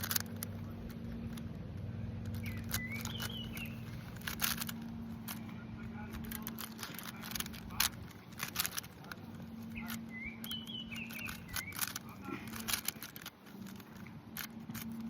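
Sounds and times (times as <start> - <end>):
puzzle cube plastic clicks: 0.0 - 15.0
steady low hum: 0.0 - 15.0.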